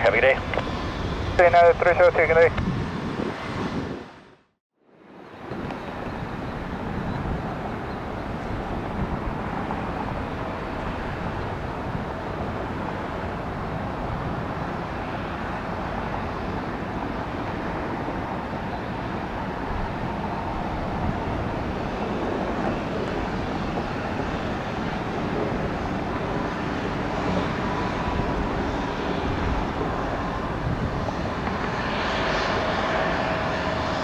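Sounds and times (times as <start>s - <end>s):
jet airliner engines rushing: 0.0s - 34.0s.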